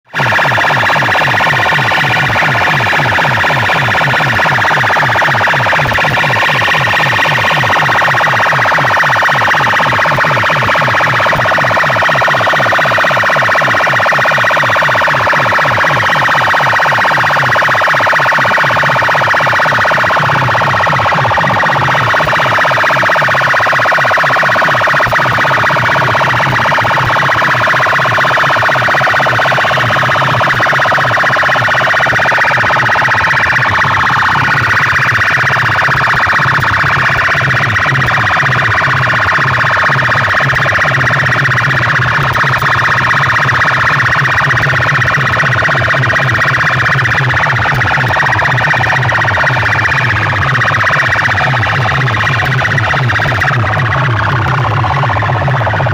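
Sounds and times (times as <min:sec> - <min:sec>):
loud music with pulsing bass: 0:00.1 - 0:55.9.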